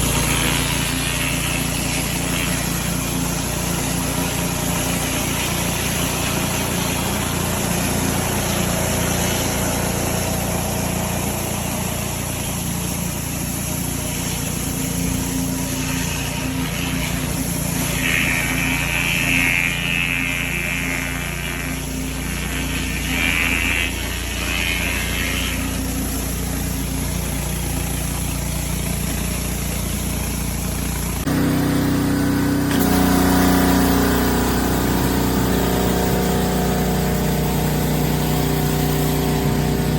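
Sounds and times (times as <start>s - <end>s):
hissing spray: 0.0s - 39.9s
pressure washer running: 0.0s - 39.9s.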